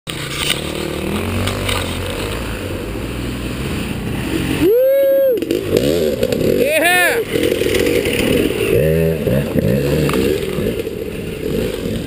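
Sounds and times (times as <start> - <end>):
dirt bike engine revving: 0.1 - 12.0.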